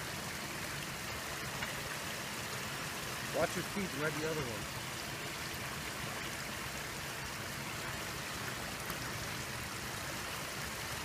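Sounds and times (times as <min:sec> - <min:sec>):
creek water rushing through sticks: 0:00.0 - 0:11.0.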